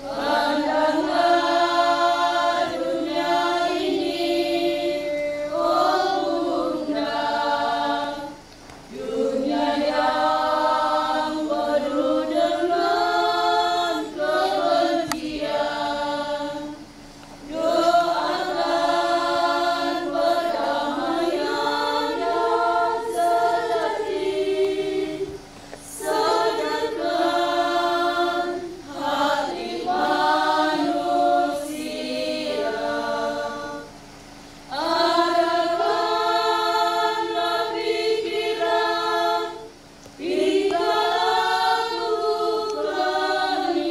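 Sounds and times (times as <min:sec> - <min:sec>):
women's choir singing: 0:00.0 - 0:43.9.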